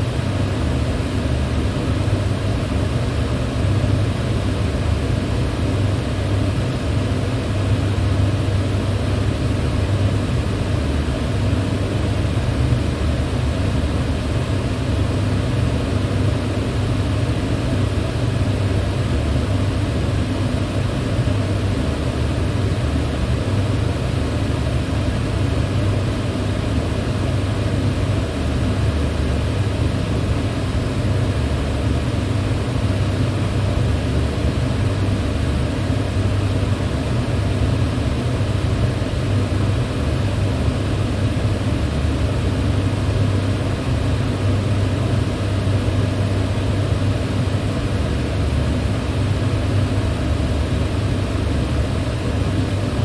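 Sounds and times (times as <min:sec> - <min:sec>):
electric fan running: 0:00.0 - 0:53.0.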